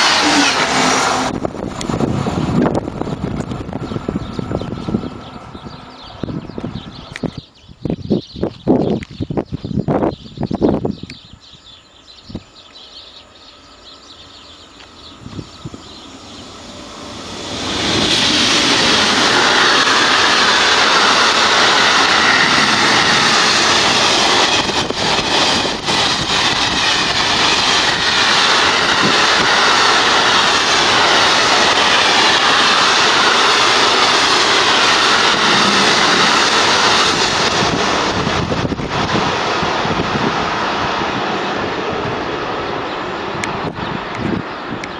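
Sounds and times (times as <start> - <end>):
freight train wheels rushing on rail: 0.0 - 44.9.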